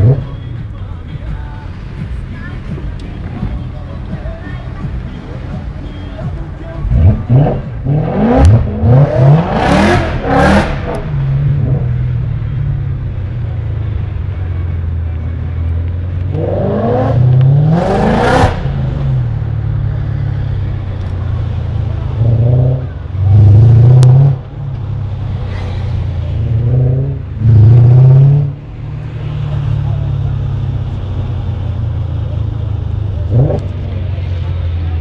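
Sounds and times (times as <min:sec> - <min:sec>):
car engine revving: 0:00.0 - 0:00.8, 0:01.4 - 0:35.0.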